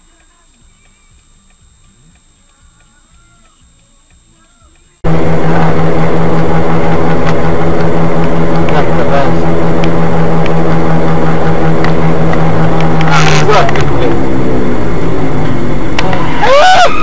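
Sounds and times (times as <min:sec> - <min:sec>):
vehicle engine drone: 0:00.0 - 0:17.0.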